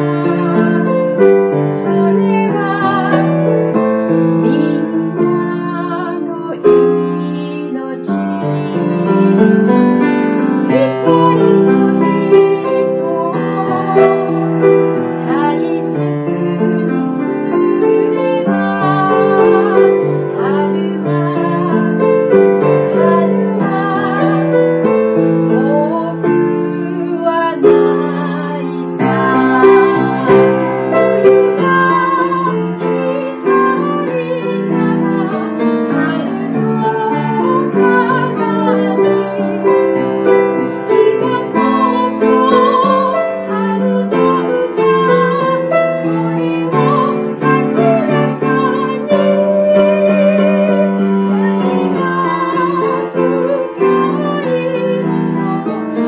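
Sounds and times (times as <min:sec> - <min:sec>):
grand piano: 0:00.0 - 0:56.0
woman singing with vibrato: 0:00.0 - 0:56.0.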